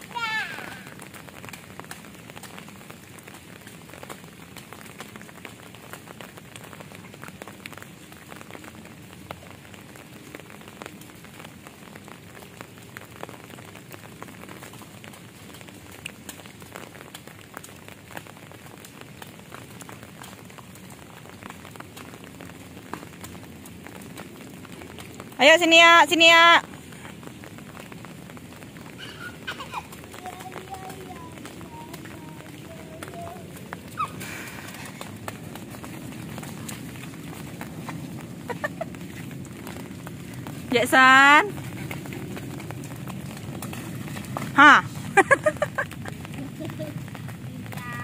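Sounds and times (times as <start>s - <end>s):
rain drops hitting surfaces: 0.0s - 48.0s.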